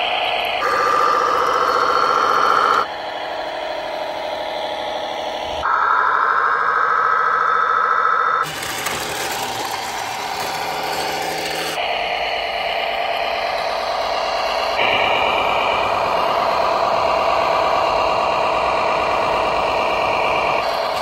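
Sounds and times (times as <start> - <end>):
model vehicle motors droning and whining: 0.0 - 21.0.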